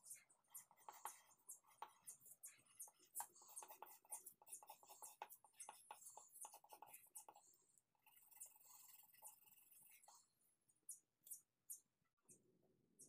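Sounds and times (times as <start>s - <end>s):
pencil scratching on paper: 0.0s - 11.4s.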